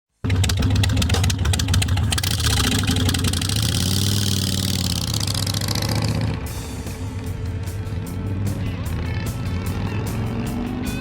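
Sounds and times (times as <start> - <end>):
engine running and revving: 0.2 - 11.0.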